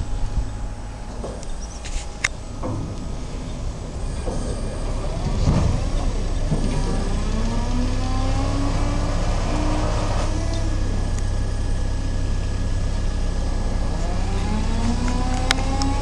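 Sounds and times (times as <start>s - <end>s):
diesel engine revving under load: 0.0s - 16.0s.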